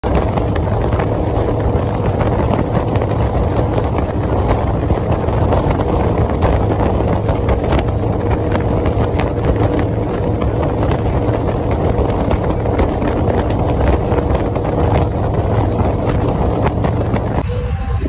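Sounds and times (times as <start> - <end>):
wind buffeting microphone: 0.0 - 17.4
motorcycles droning at speed: 0.0 - 18.0.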